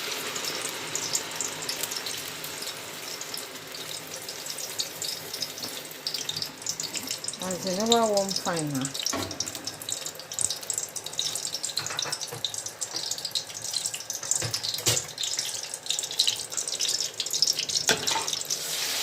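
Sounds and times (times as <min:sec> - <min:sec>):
hot oil crackling in a pot: 0:00.0 - 0:19.0.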